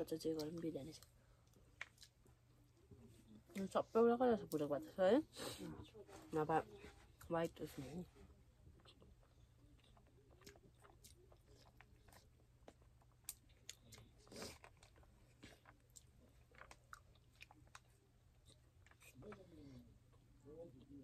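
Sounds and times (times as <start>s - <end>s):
quiet chewing: 0.3s - 3.8s, 6.7s - 21.0s.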